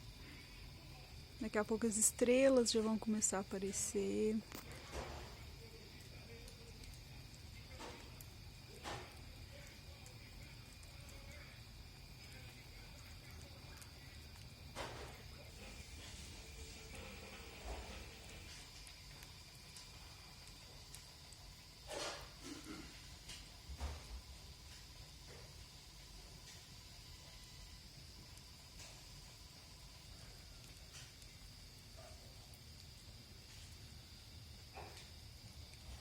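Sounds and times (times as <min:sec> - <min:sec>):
bonfire crackling: 0:00.0 - 0:36.0
insects chirping: 0:00.0 - 0:36.0.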